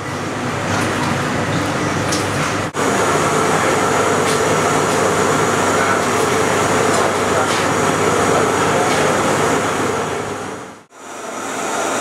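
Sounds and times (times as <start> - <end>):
fan rushing and rumbling: 0.0 - 12.0.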